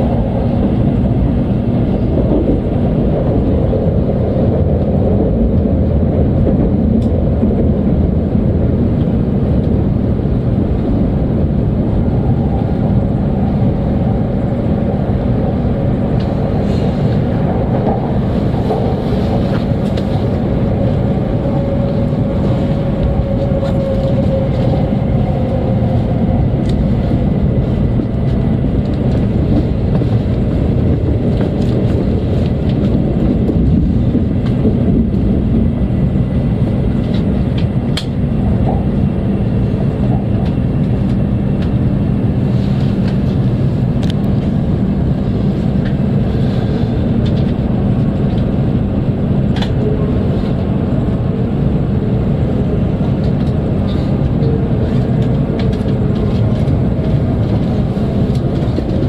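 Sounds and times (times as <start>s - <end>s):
train rumble and hum: 0.0s - 59.0s.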